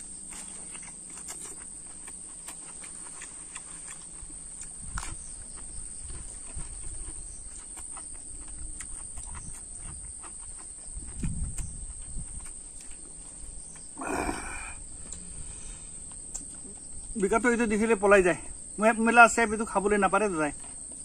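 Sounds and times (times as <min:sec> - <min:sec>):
man chewing food: 0:00.0 - 0:17.2, 0:20.6 - 0:21.0.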